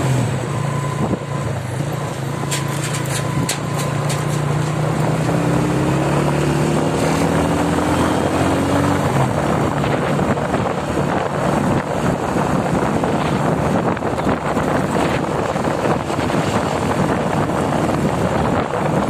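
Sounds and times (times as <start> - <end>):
vehicle engine hum: 0.0 - 19.0
wind rushing on microphone: 0.0 - 19.0.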